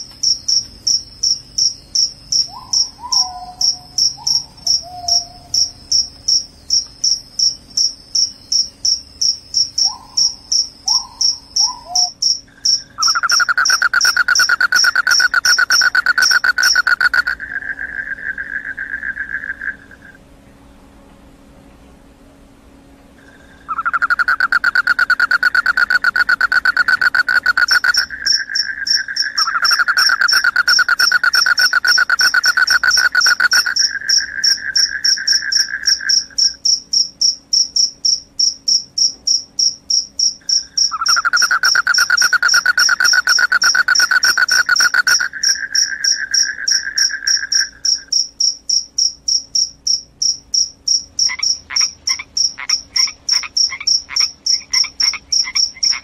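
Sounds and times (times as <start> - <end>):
crickets high steady trill: 0.0 - 20.2, 23.2 - 56.0
crickets low trill: 0.0 - 56.0.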